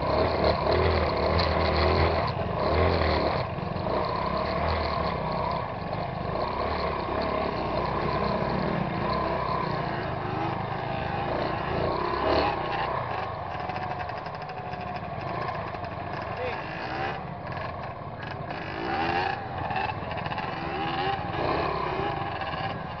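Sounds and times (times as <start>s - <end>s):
motorcycle engine at low revs: 0.0s - 23.0s.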